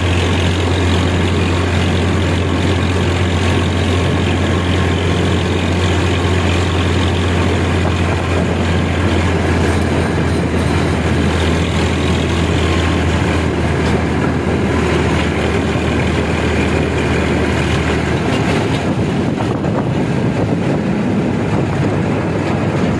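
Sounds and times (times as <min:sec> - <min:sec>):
tractor engine humming: 0:00.0 - 0:22.9.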